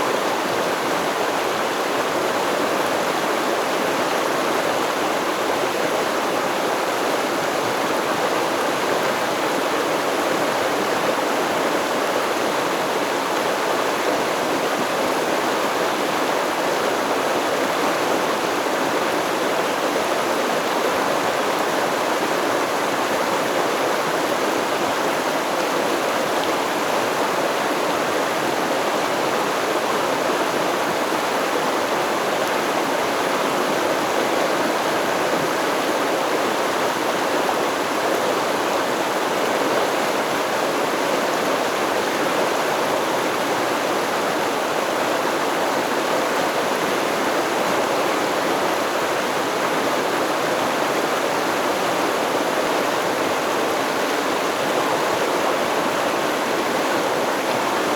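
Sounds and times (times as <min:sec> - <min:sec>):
stream flowing over stones: 0:00.1 - 0:57.9.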